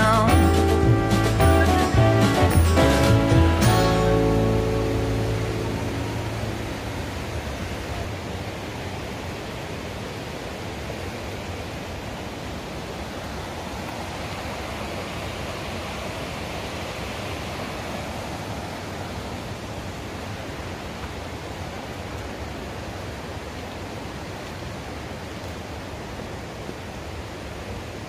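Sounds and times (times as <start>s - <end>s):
creek running over rocks: 0.0s - 28.0s.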